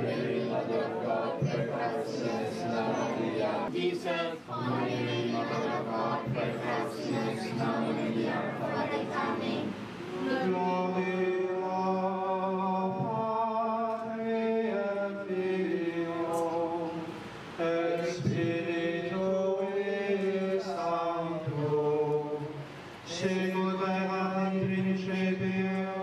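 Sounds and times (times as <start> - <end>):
congregation singing a hymn: 0.0 - 26.0.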